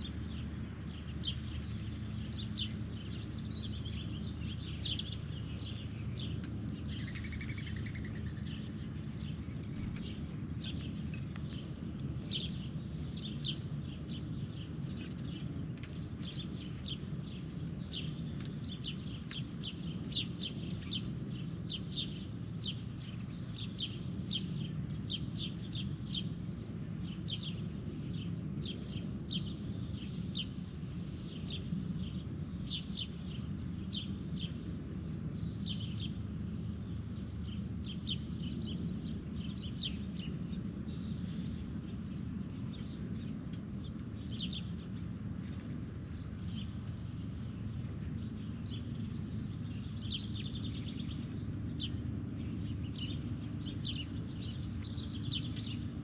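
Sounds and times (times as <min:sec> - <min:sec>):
birds chirping: 0:00.0 - 0:56.0
steady low rumble: 0:00.0 - 0:56.0.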